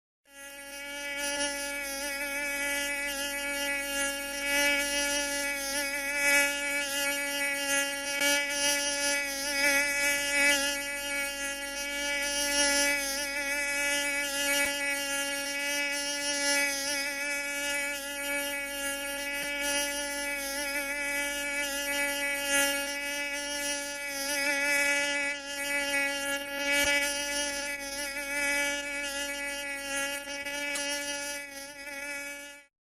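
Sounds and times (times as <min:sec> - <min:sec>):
mosquito whining: 0:00.3 - 0:32.7.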